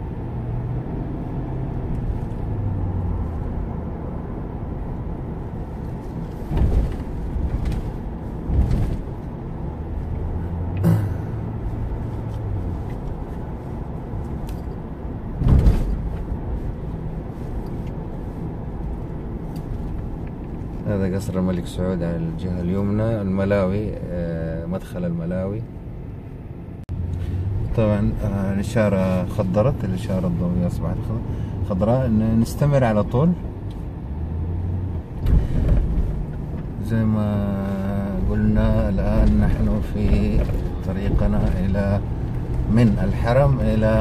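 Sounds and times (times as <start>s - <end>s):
car engine and road hum: 0.0s - 44.0s.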